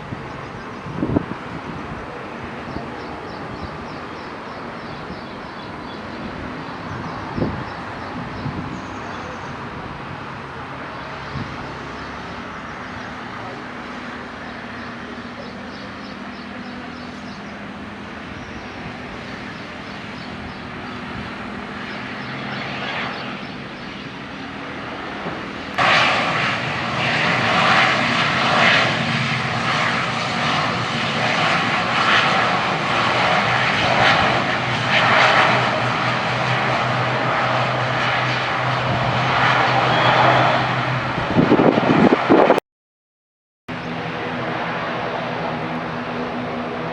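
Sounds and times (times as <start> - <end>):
turboprop engines droning: 0.0 - 42.6, 43.7 - 46.9.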